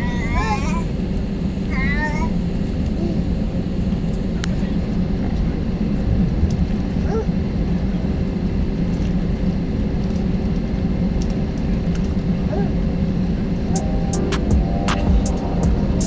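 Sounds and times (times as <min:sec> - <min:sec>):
airliner cabin rumble and hum: 0:00.0 - 0:16.0.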